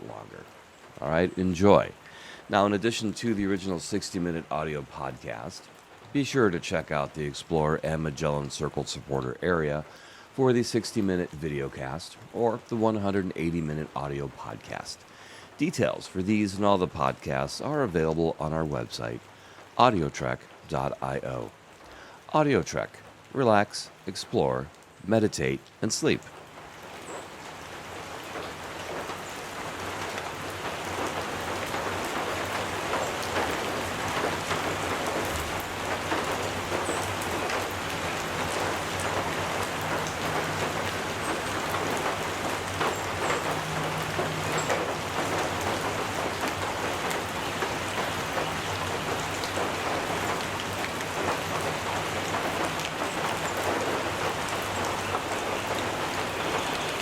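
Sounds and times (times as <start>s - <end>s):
rain pattering on a metal roof: 0.0s - 57.0s.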